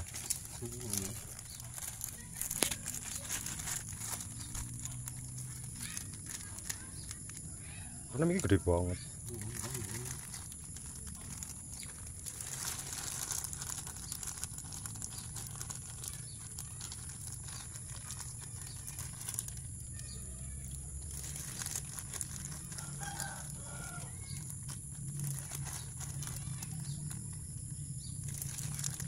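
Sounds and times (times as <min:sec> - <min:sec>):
plastic bag crinkling: 0:00.0 - 0:29.0.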